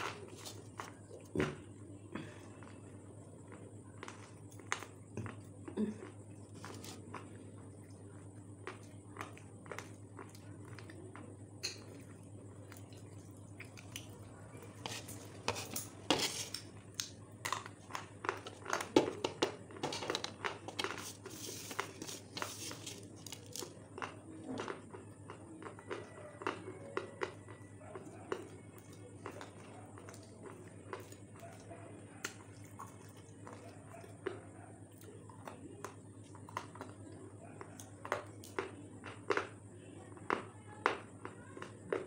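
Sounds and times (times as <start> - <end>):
chewing and crunching fried chicken: 0.0 - 42.0
steady background hum: 0.0 - 42.0.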